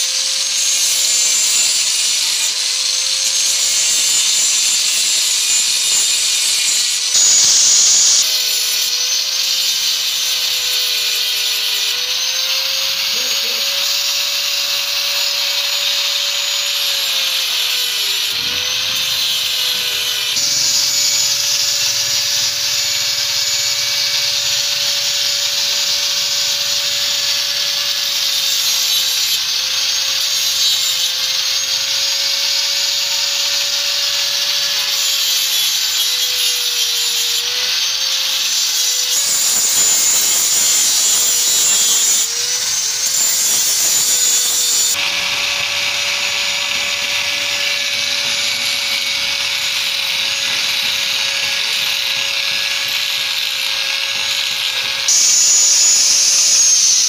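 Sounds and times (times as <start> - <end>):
angle grinder grinding metal: 0.0 - 57.0.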